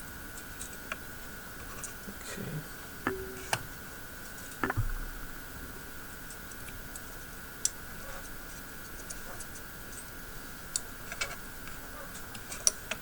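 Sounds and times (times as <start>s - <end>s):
faint high-pitched hum: 0.0s - 12.9s.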